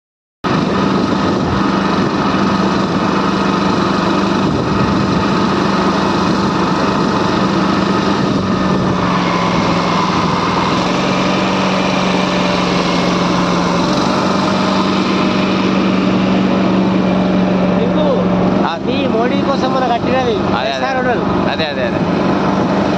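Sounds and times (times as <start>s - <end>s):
small boat engine droning: 0.5s - 22.9s.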